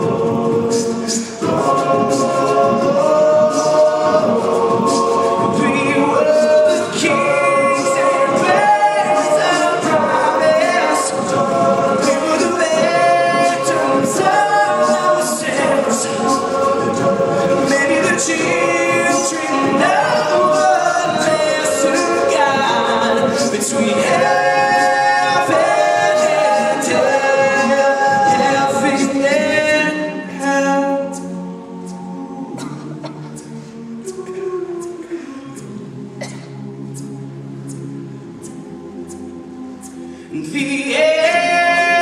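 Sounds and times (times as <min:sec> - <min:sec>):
male group singing in harmony: 0:00.0 - 0:42.0.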